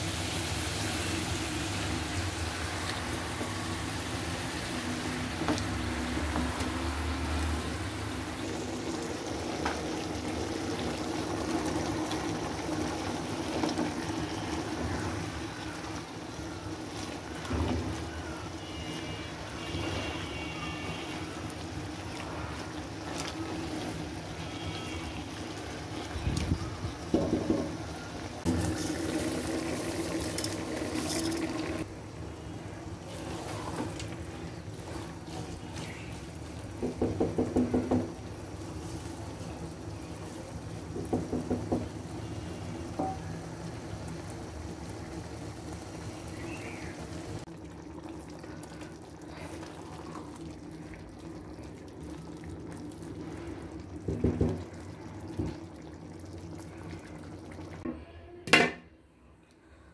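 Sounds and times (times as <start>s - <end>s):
food sizzling and bubbling in a pan: 0.0s - 57.9s.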